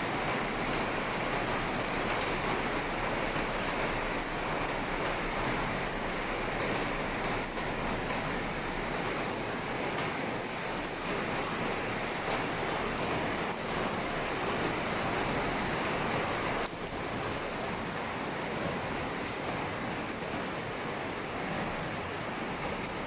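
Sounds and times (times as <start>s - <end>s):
flood water rushing: 0.0s - 23.0s.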